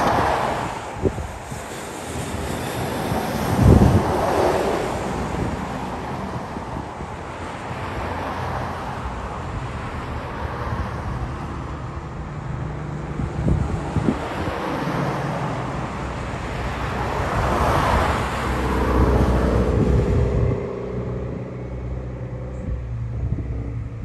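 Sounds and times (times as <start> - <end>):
distant jet engine drone: 0.0 - 24.0.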